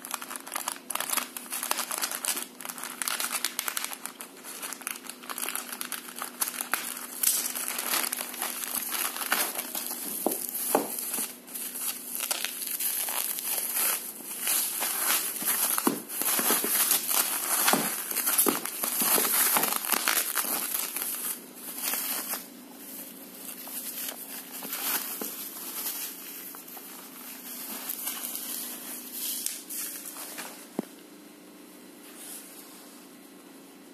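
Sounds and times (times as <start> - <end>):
bubble wrap crinkling: 0.0 - 30.8.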